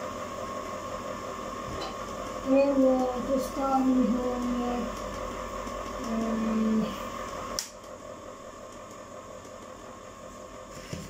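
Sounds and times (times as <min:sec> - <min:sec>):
ice cream maker humming and whining: 0:00.0 - 0:11.0.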